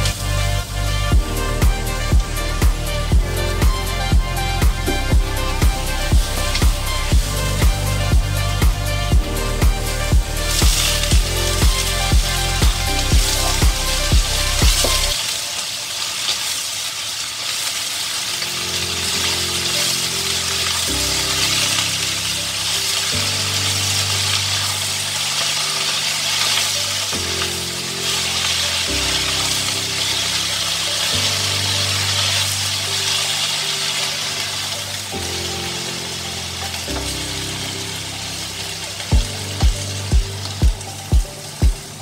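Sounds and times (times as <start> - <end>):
soft background music: 0.0 - 42.0
vegetables sizzling in a wok: 0.0 - 42.0.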